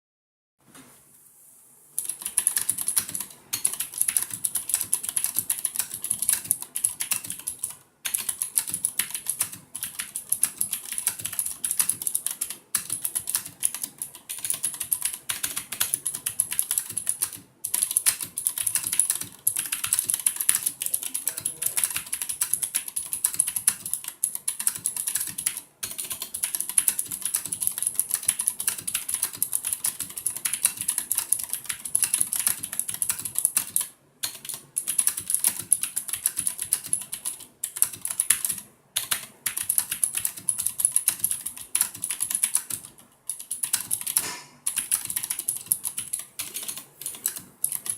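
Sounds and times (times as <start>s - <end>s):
clicky mechanical keyboard typing: 2.0s - 47.9s.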